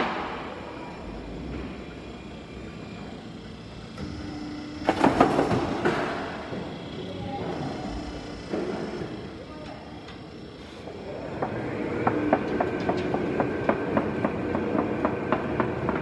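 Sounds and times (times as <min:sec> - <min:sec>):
machine rumbling: 0:00.0 - 0:16.0.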